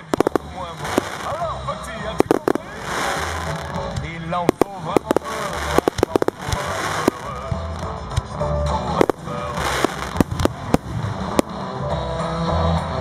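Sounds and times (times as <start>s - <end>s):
fireworks bursting: 0.0s - 11.8s
music playing: 0.0s - 13.0s.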